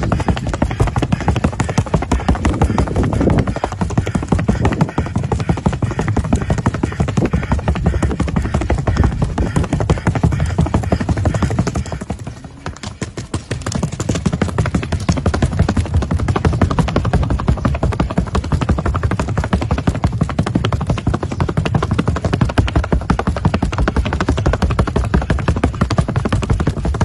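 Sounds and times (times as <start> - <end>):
horse hooves in rapid patter: 0.0 - 27.0.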